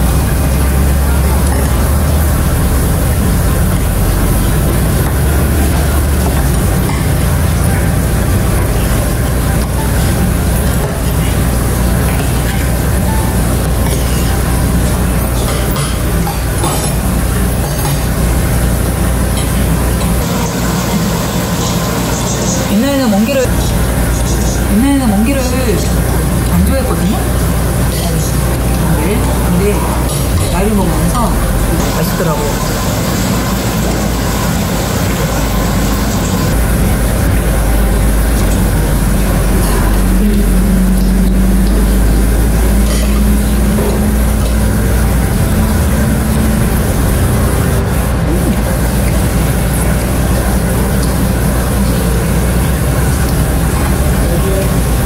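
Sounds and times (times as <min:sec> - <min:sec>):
constant hum and hiss: 0:00.0 - 0:55.0
low rumbling background noise: 0:00.0 - 0:55.0.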